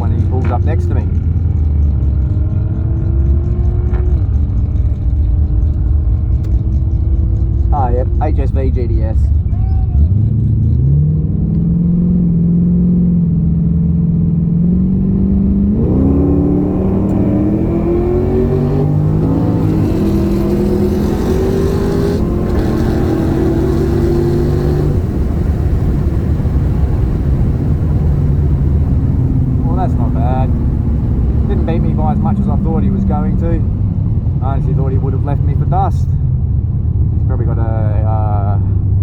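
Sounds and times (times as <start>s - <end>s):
gear changes: 0.0s - 37.5s
car engine accelerating hard: 0.0s - 39.0s.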